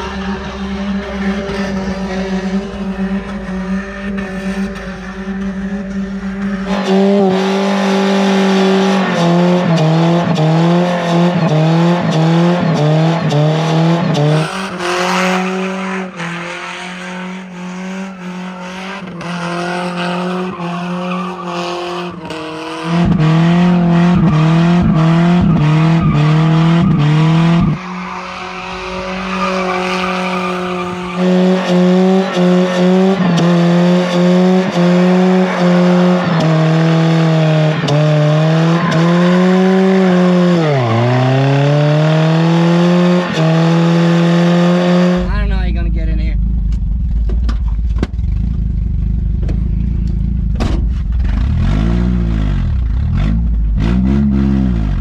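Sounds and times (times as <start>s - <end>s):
tires squealing: 0.0s - 46.2s
engine bouncing off rev limiter: 0.0s - 55.0s.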